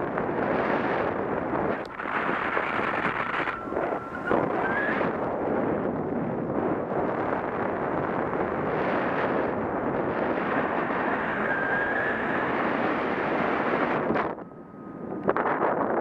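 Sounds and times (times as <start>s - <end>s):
wind roaring over microphone: 0.0s - 16.0s.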